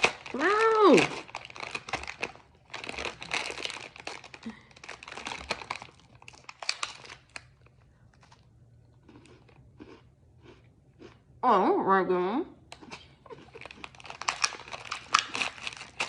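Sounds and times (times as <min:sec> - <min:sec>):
plastic snack wrapper crinkling: 0:00.0 - 0:10.6, 0:12.7 - 0:16.0.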